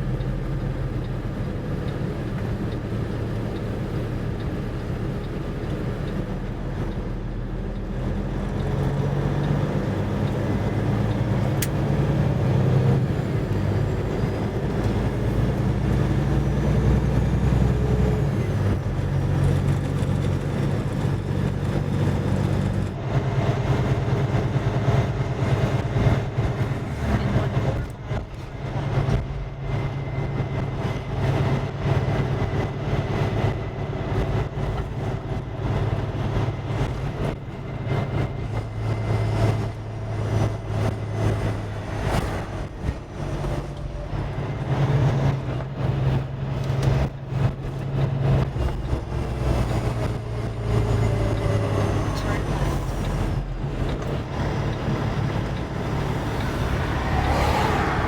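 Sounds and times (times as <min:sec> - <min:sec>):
truck diesel engine droning: 0:00.0 - 0:58.0.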